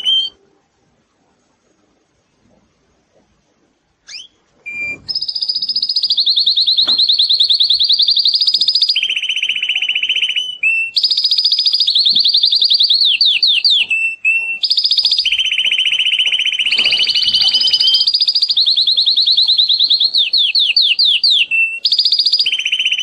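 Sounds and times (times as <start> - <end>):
canary singing trills: 0.0 - 0.4, 4.0 - 23.0.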